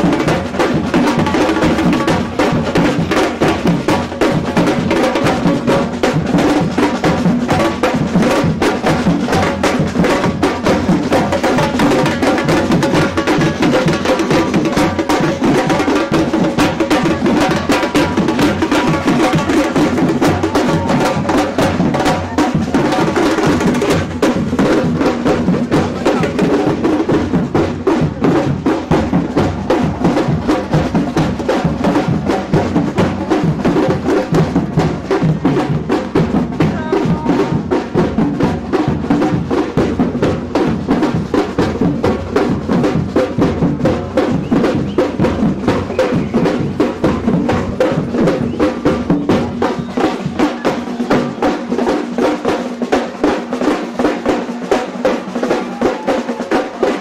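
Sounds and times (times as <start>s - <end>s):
samba percussion band: 0.0s - 57.0s.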